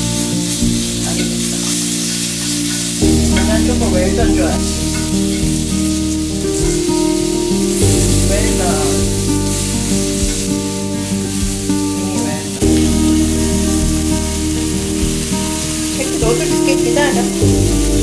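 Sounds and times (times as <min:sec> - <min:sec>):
background music with sustained chords: 0:00.0 - 0:18.0
steak sizzling on a griddle: 0:00.0 - 0:18.0.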